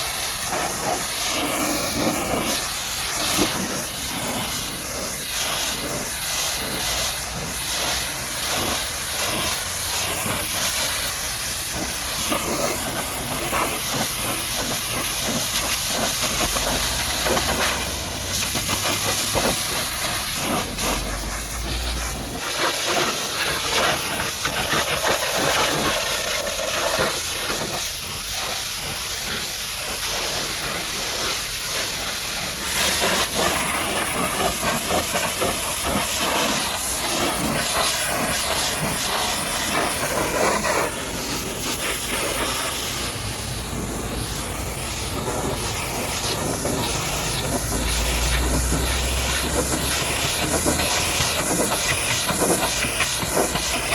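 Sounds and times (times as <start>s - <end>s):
pressure washer spraying water: 0.0s - 53.9s.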